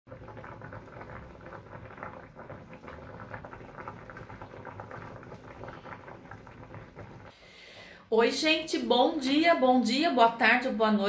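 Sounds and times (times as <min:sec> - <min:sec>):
water boiling in a pot: 0:00.1 - 0:11.0.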